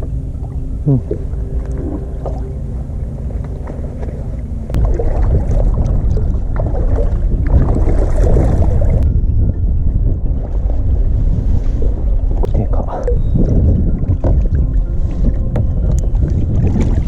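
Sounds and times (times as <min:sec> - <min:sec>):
outboard motor running: 0:00.0 - 0:17.0
water noise: 0:00.0 - 0:17.0
wind: 0:00.0 - 0:17.0.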